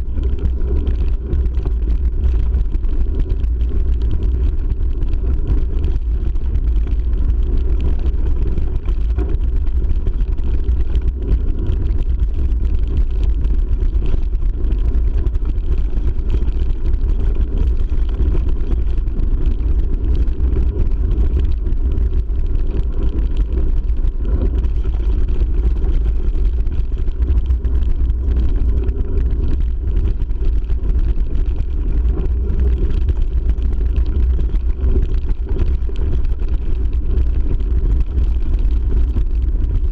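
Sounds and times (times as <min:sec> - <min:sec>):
bike tyres rumbling on gravel: 0:00.0 - 0:39.9.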